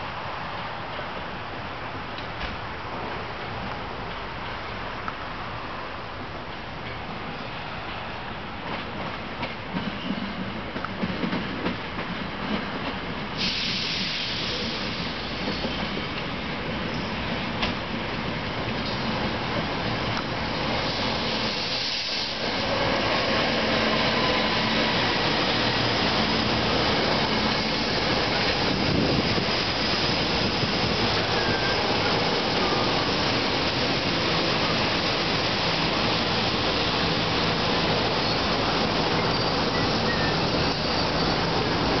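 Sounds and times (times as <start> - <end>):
train rolling past: 0.0 - 42.0.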